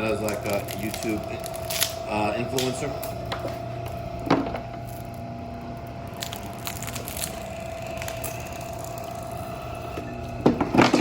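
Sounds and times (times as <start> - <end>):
machine whine and hum: 0.0 - 11.0
wire stripping machine crunching: 0.0 - 11.0.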